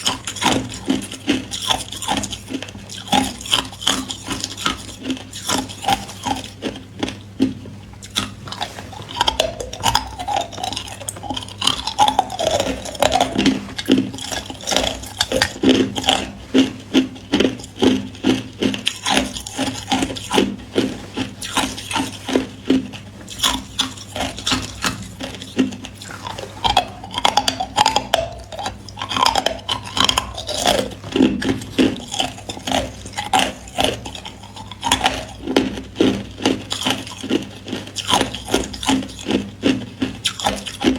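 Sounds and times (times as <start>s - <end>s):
person crunching ice: 0.0s - 7.2s, 8.0s - 40.9s.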